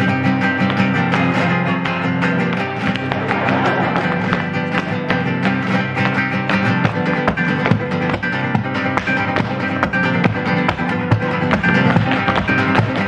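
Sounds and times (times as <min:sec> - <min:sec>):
flamenco guitar music: 0:00.0 - 0:13.0
dancing shoes tapping: 0:00.5 - 0:13.0.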